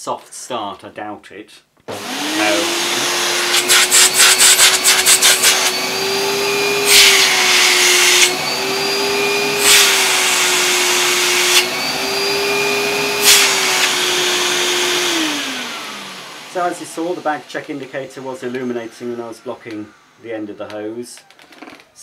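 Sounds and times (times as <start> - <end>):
vacuum cleaner motor hum: 1.9 - 20.0.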